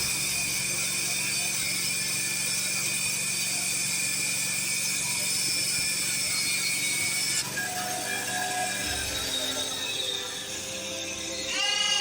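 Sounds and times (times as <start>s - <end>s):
saw blade whine: 0.0s - 12.0s
sawmill engine hum: 0.0s - 12.0s.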